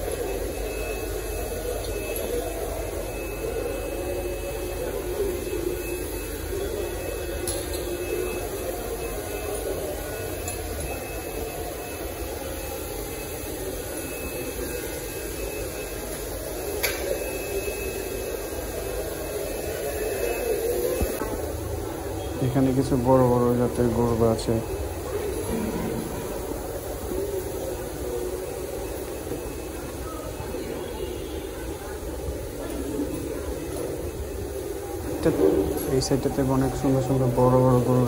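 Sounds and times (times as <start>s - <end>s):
mechanical droning hum: 0.0s - 38.0s.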